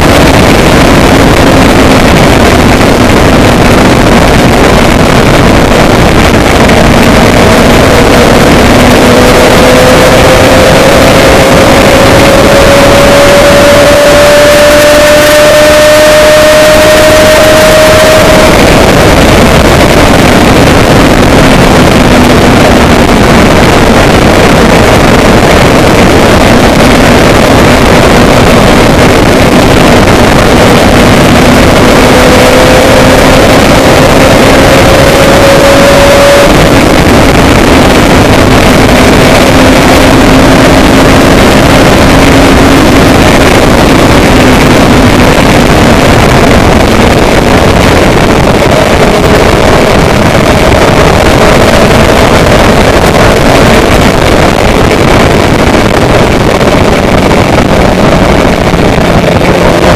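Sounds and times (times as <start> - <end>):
moving vehicle engine hum: 0.0 - 59.9.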